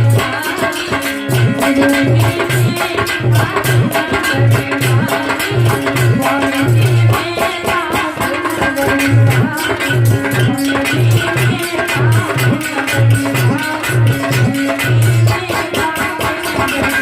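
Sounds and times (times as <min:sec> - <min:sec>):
hand drum beating: 0:00.0 - 0:17.0
jingling percussion: 0:00.0 - 0:17.0.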